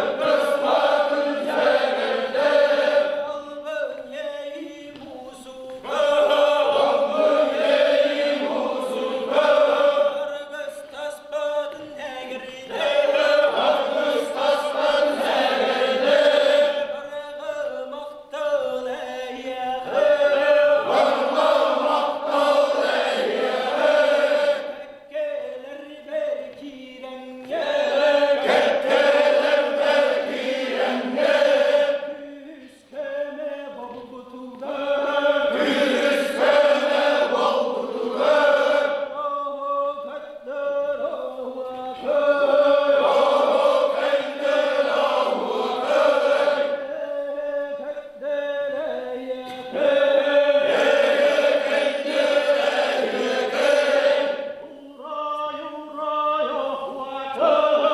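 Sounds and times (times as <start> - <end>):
lead singer chanting: 0.0 - 57.9
men singing in unison: 0.0 - 57.9.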